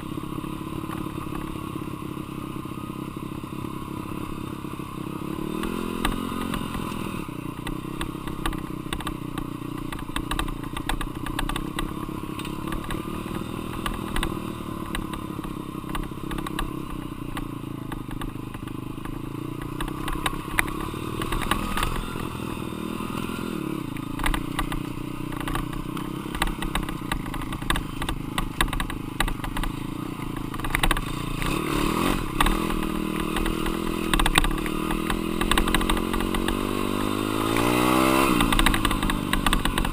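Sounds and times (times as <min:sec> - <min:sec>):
dirt bike engine: 0:00.0 - 0:39.9
bike rattling and knocking: 0:05.6 - 0:22.5, 0:24.0 - 0:39.9.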